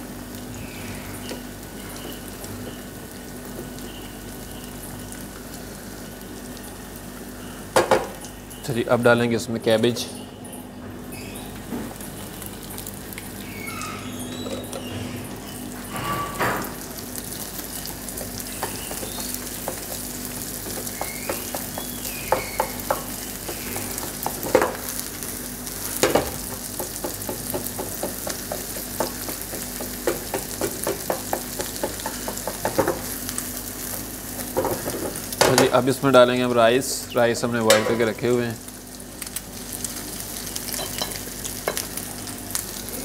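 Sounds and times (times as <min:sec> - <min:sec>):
food sizzling in frying pan: 0:00.0 - 0:08.9, 0:09.5 - 0:43.0.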